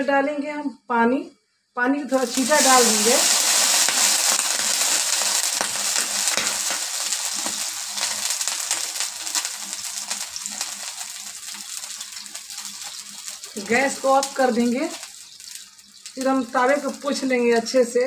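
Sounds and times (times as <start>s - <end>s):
water sizzling on hot griddle: 2.1s - 18.0s.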